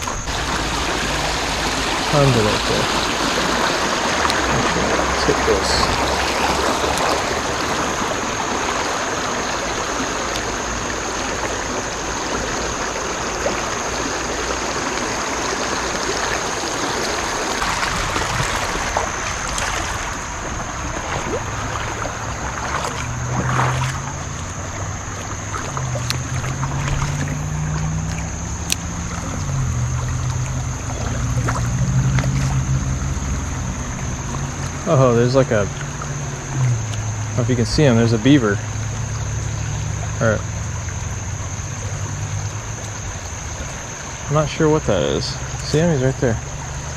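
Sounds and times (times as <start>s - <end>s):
creek water running over rapids: 0.0s - 46.9s
low wavering hum: 0.0s - 46.9s
steady high-pitched whine: 0.0s - 46.9s.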